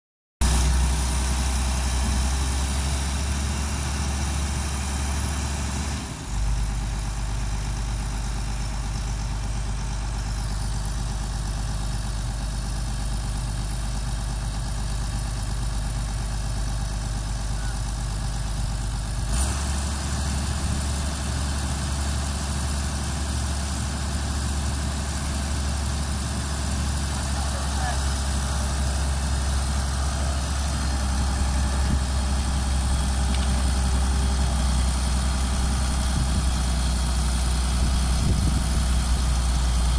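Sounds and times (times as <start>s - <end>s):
excavator diesel engine running: 0.4s - 39.9s.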